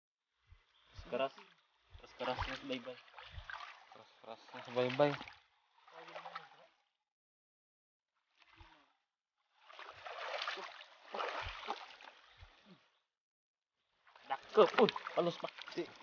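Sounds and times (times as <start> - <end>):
feet splashing through shallow water: 0.4 - 6.8, 8.2 - 13.0, 13.9 - 16.0.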